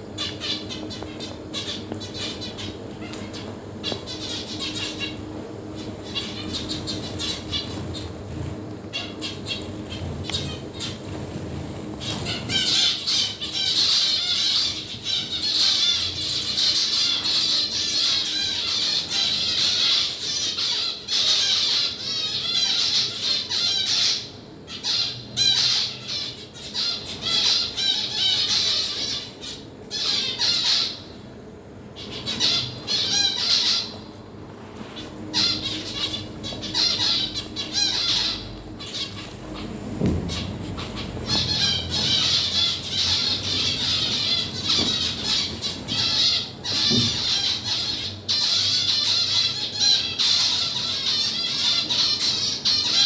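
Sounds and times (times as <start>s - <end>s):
birds squawking and chattering: 0.0s - 53.0s.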